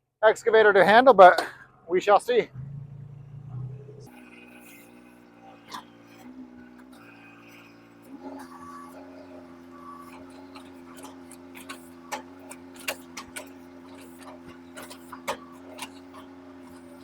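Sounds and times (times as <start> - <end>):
excavator engine running: 0.3 - 17.0.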